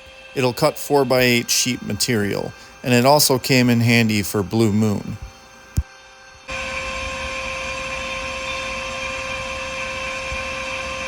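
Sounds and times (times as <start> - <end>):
router spindle whine: 0.0 - 11.0.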